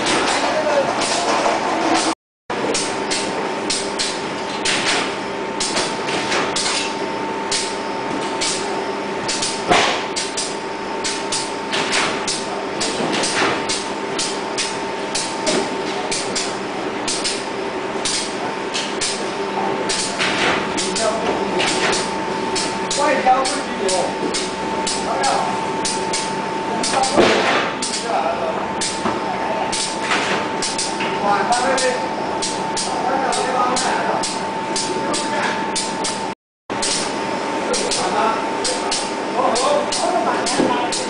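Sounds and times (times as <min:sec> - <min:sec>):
factory machinery humming and whining: 0:00.0 - 0:41.0.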